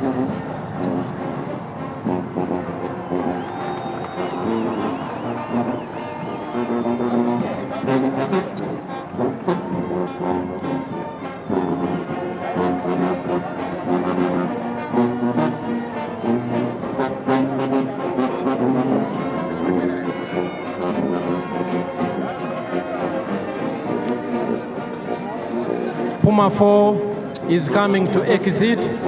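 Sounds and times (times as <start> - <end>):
held brass notes: 0.0 - 29.0.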